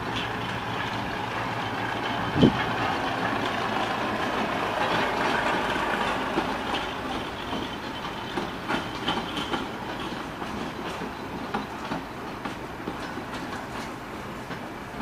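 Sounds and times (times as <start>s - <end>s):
locomotive engine: 0.0s - 15.0s
wheels clicking over rail joints: 0.0s - 15.0s
wheels rumbling on track: 0.0s - 15.0s.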